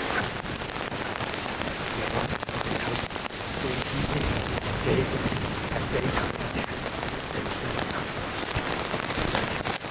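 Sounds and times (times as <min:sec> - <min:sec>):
gusts buffeting microphone: 0:00.0 - 0:09.9
wind and rain rushing: 0:00.0 - 0:09.9.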